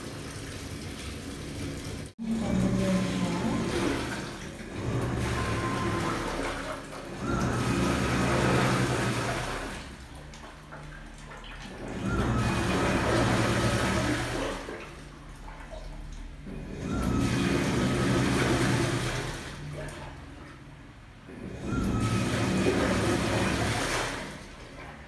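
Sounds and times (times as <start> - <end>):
washing machine agitating: 0.0 - 25.0
water churning and sloshing: 0.0 - 25.0
motor hum and whine: 2.2 - 25.0.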